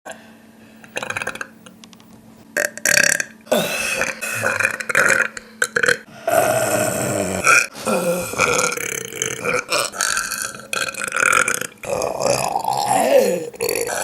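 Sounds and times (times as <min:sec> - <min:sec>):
person burping: 0:00.9 - 0:01.6, 0:02.6 - 0:14.0.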